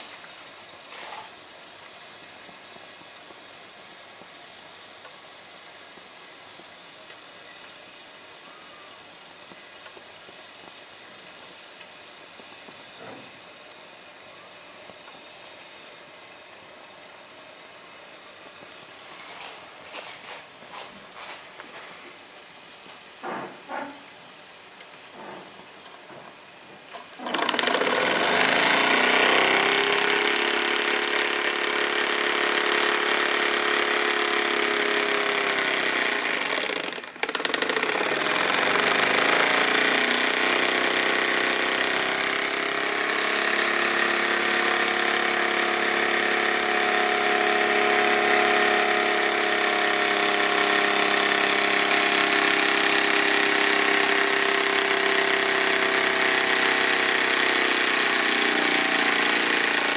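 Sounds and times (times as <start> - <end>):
toy steam engine hissing and clattering: 0.0 - 16.4, 26.9 - 59.9.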